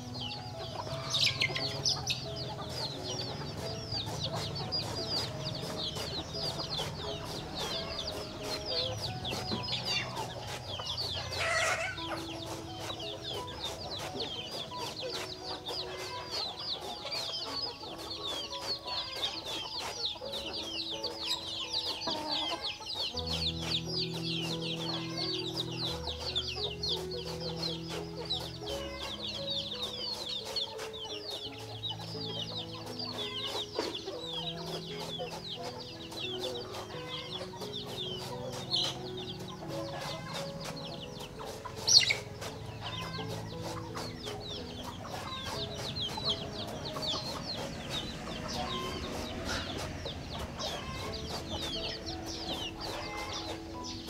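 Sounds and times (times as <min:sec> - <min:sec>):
background music of low notes: 0:00.0 - 0:54.0
chicks peeping: 0:00.0 - 0:54.0.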